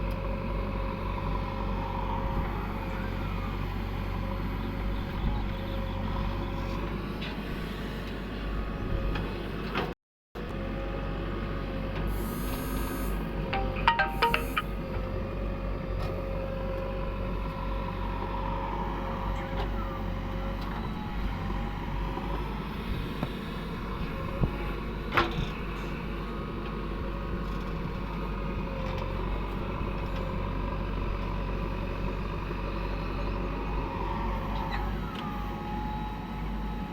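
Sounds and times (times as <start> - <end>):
diesel engine rumbling: 0.0 - 7.1, 10.6 - 36.8.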